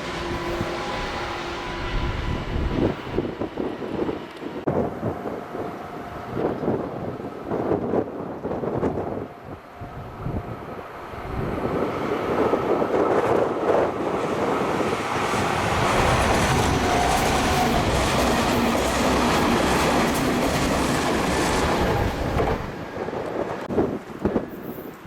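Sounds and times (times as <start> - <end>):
electric train passing: 0.0 - 25.0
faint train whine: 0.0 - 25.0.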